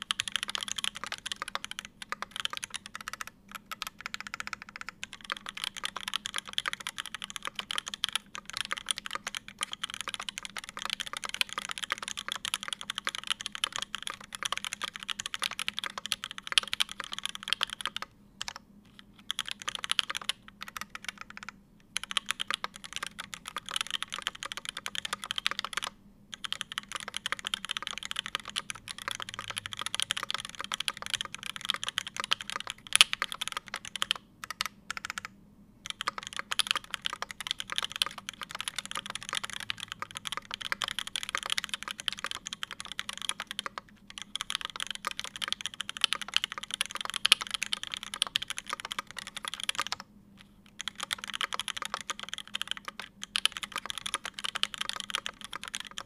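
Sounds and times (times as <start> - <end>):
fast typing on mechanical keyboard: 0.0 - 18.6, 19.2 - 56.0.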